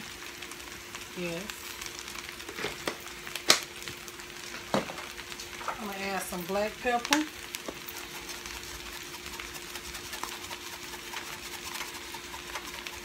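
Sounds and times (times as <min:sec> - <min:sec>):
potatoes and sausage sizzling: 0:00.0 - 0:13.0.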